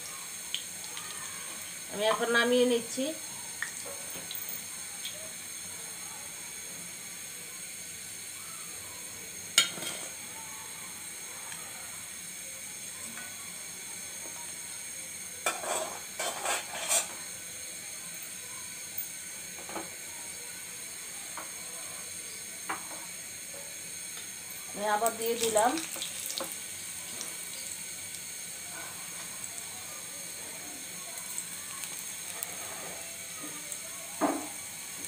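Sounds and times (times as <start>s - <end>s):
hot oil sizzling: 0.0s - 35.0s.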